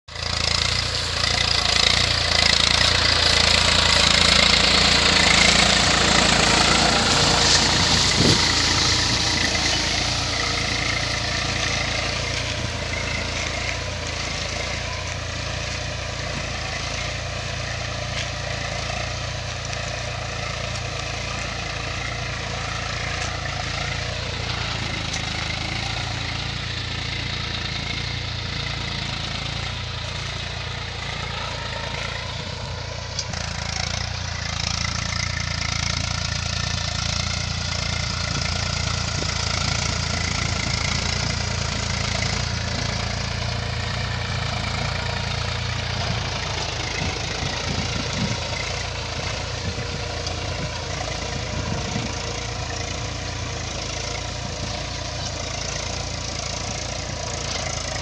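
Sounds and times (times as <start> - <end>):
tractor diesel engine labouring: 0.0 - 58.0.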